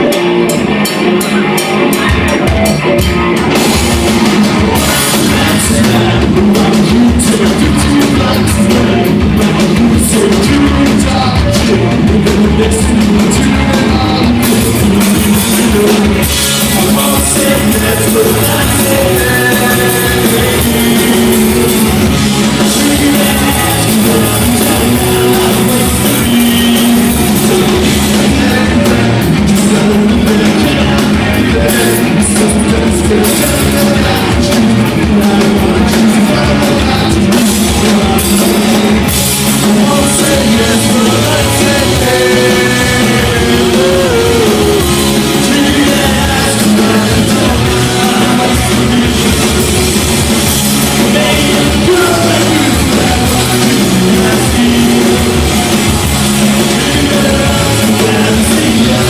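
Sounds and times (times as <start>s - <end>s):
drums: 0.0s - 59.0s
electric guitars: 0.0s - 59.0s
person singing: 0.0s - 59.0s.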